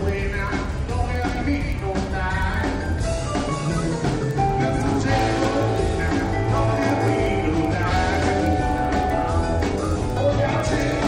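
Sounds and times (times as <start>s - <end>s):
song with singing and drums: 0.0s - 11.0s.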